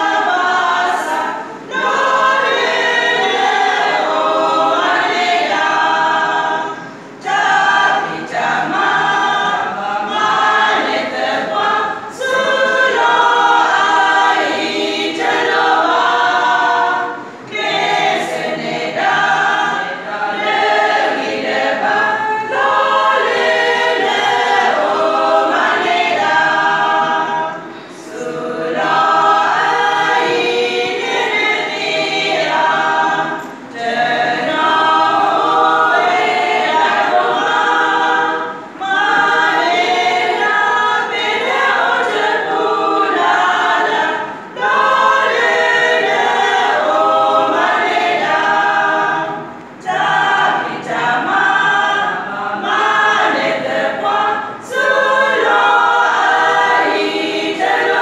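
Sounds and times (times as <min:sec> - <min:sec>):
women's choir singing a cappella: 0:00.0 - 0:58.0.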